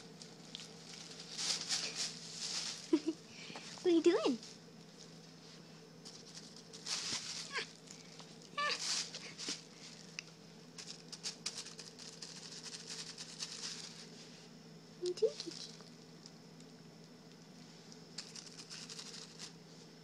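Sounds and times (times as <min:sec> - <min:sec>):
plastic bag crinkling: 0:00.1 - 0:05.3, 0:06.0 - 0:14.1, 0:15.1 - 0:16.7, 0:18.0 - 0:19.6.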